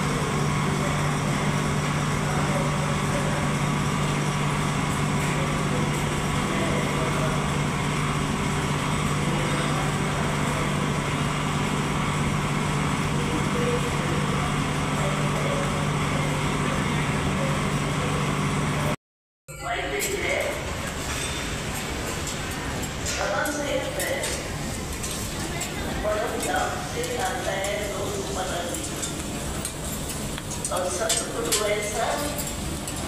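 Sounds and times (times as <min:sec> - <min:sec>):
kitchen machinery humming: 0:00.0 - 0:19.0, 0:19.6 - 0:33.0.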